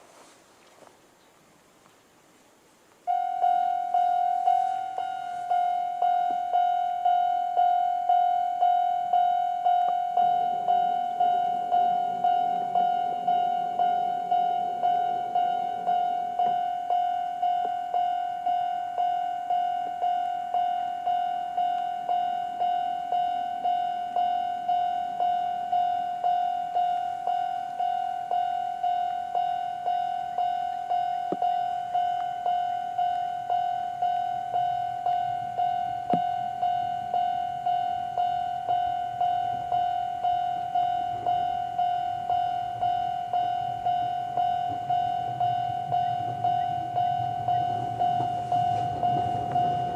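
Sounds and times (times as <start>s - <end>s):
train rumble: 3.0s - 49.9s
level crossing alarm ringing: 3.1s - 49.9s.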